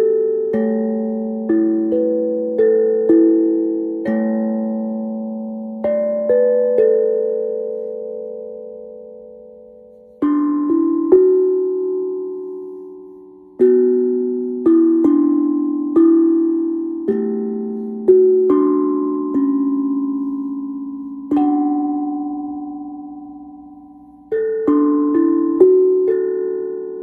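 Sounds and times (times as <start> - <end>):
steel tongue drum melody: 0.0 - 27.0.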